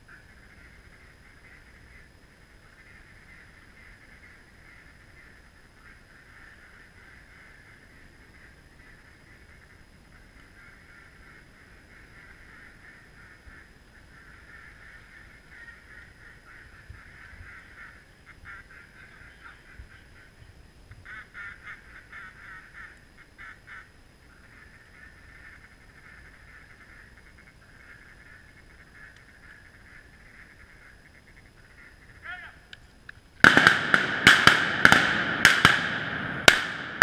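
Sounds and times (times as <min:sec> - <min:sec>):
waterfowl calling: 0:00.1 - 0:32.7.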